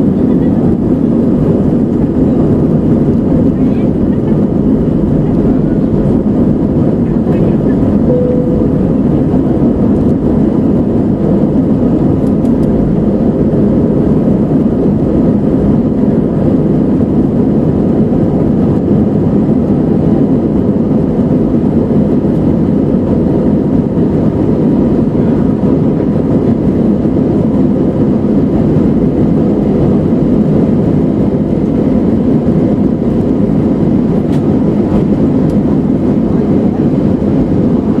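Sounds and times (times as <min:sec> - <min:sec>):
airflow around fuselage: 0:00.0 - 0:38.0
jet engine cabin noise: 0:00.0 - 0:38.0.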